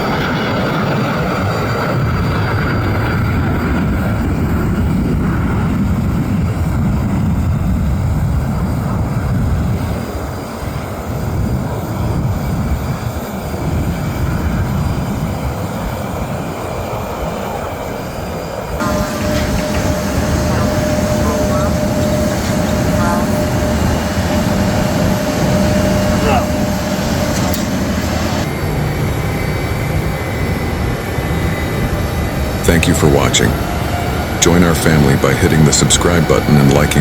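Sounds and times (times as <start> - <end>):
deep jet engine rumble: 0.0 - 37.0
faint high jet whine: 0.0 - 37.0.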